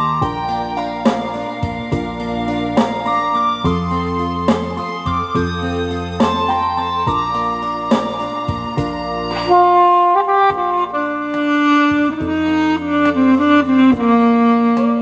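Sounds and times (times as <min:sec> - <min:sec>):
alto saxophone melody: 0:00.0 - 0:15.0
backing accompaniment with bass: 0:00.0 - 0:15.0.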